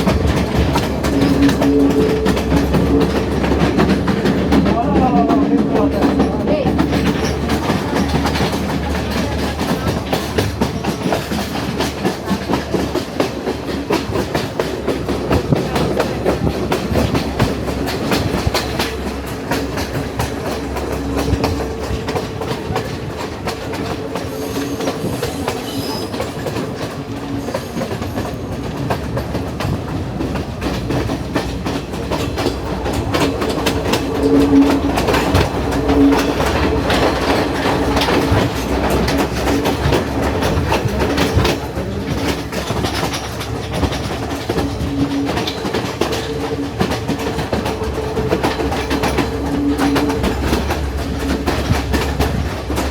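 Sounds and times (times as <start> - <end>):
train rumble: 0.0 - 52.9
train wheels clacking on rails: 0.0 - 52.9.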